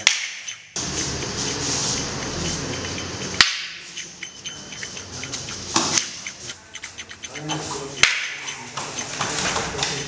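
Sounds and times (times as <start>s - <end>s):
sticks clicking and tapping: 0.0s - 10.0s.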